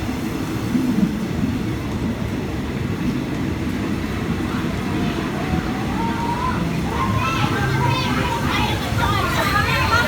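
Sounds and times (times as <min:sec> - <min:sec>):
train carriage low rumble: 0:00.0 - 0:10.0.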